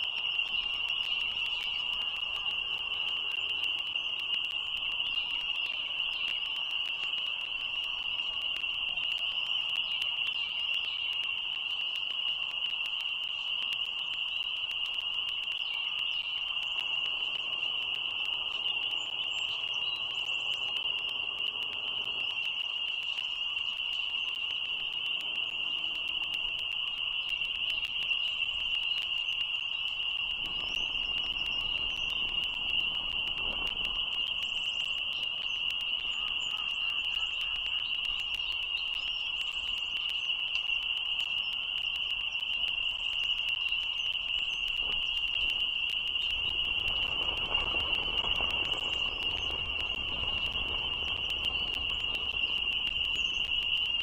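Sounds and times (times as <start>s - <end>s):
high-pitched frog chorus: 0.0s - 54.0s
faint bird chirps: 0.1s - 12.2s, 13.0s - 54.0s.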